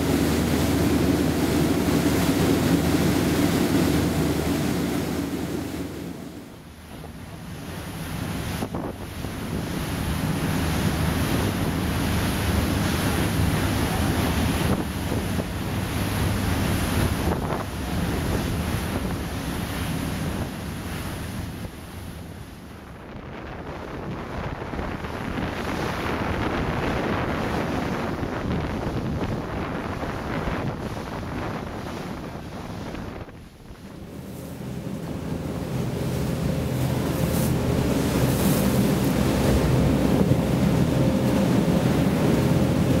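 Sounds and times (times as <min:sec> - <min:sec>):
boat engine rumble: 0:00.0 - 0:43.0
sea and wake rushing: 0:00.0 - 0:43.0
wind buffeting microphone: 0:06.9 - 0:43.0.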